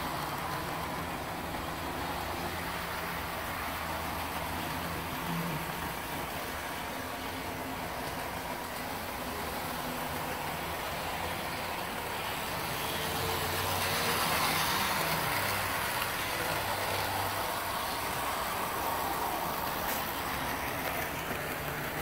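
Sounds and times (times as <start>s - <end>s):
model train motors whirring: 0.0s - 22.0s.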